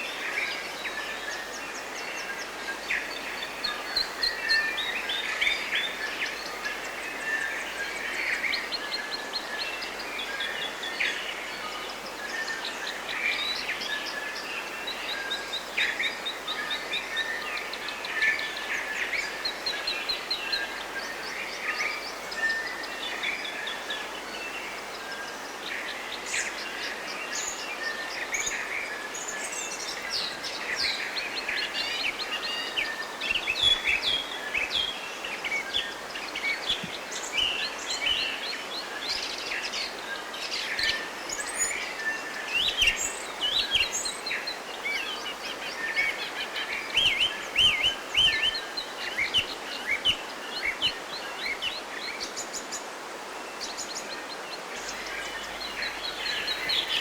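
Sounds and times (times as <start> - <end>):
running stream: 0.0 - 57.0
songbirds singing: 0.0 - 57.0.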